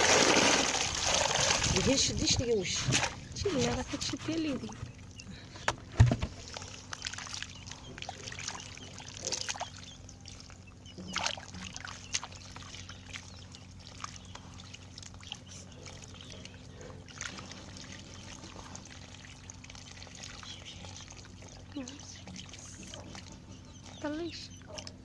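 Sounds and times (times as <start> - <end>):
water pouring and trickling: 0.0 - 3.6, 6.3 - 25.0
water splashes: 0.0 - 3.8, 6.0 - 25.0.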